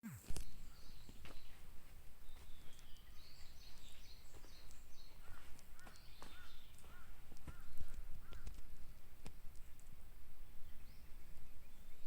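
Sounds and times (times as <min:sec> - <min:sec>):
lower arching bird calls: 0:00.0 - 0:12.0.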